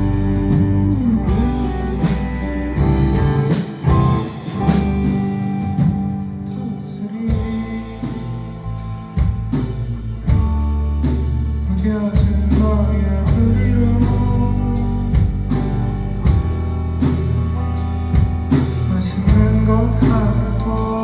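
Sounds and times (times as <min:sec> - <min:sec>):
electric guitar: 0:00.0 - 0:21.0
indie rock band playing: 0:00.0 - 0:21.0.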